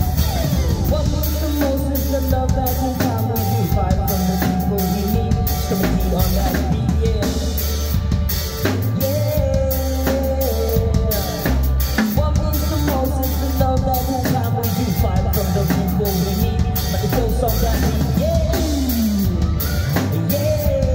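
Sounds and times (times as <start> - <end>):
bass guitar: 0.0 - 20.9
drum kit beat: 0.0 - 20.9
keyboard: 0.0 - 20.9
lead electric guitar: 0.0 - 20.9.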